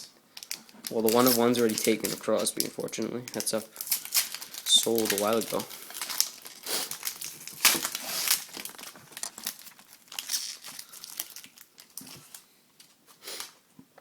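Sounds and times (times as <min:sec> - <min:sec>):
plastic wrapper crinkling and tearing: 0:00.0 - 0:13.6.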